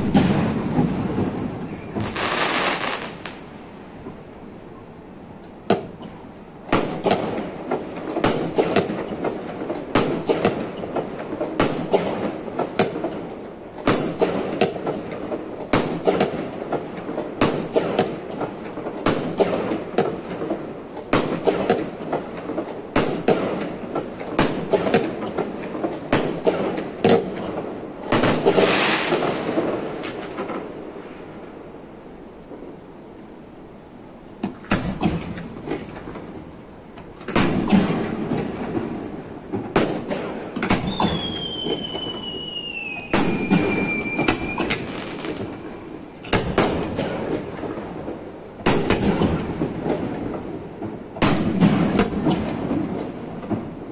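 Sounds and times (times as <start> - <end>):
crackling firework bursts: 0.0 - 4.0, 6.6 - 31.7, 34.4 - 36.6, 37.2 - 53.9
fireworks bursting: 0.0 - 4.1, 5.6 - 31.7, 34.4 - 53.9.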